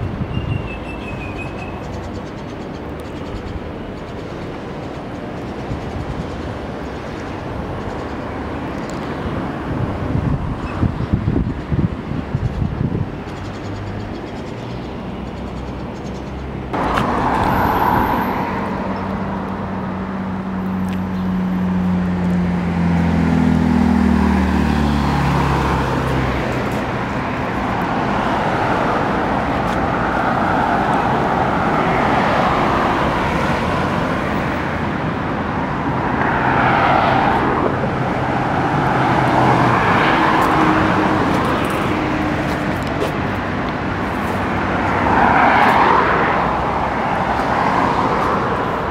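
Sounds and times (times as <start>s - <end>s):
passing cars: 0.0s - 48.9s.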